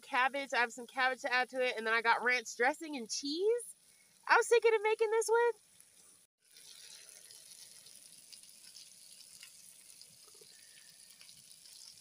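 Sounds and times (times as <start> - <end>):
sausage sizzling in a pan: 0.0 - 12.0.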